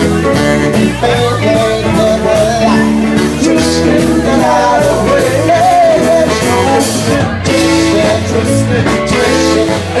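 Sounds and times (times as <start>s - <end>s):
live band playing soul dance music: 0.0s - 10.0s.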